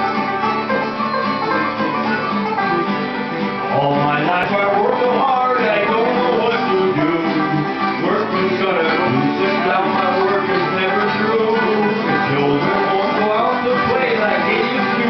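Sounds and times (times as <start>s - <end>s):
acoustic guitar: 0.0s - 15.0s
banjo: 0.0s - 15.0s
fiddle: 0.0s - 15.0s.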